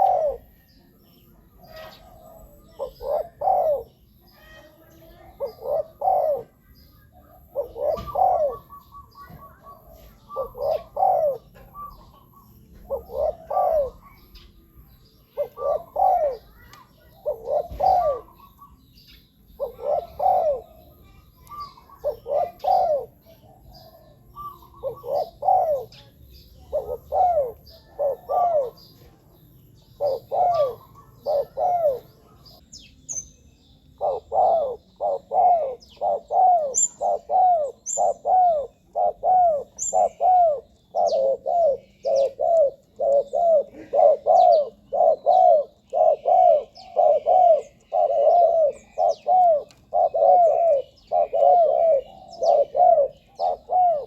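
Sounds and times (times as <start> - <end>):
dove cooing: 0.0 - 33.2, 34.0 - 54.0.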